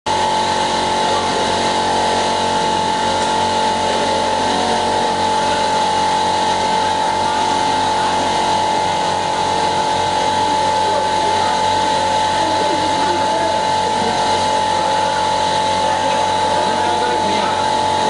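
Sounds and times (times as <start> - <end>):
laser cutter whining: 0.1 - 18.0.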